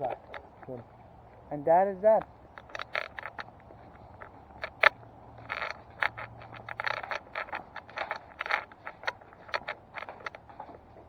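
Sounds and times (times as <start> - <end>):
scraping and rustling: 2.0 - 11.0.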